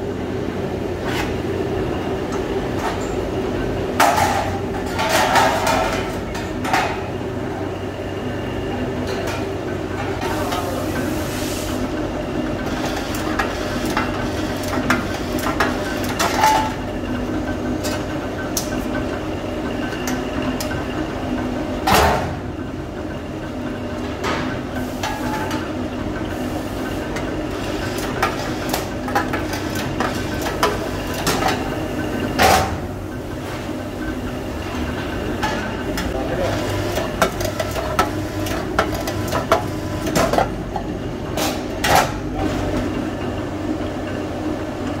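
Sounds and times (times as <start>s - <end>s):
workshop machinery hum: 0.0s - 45.0s.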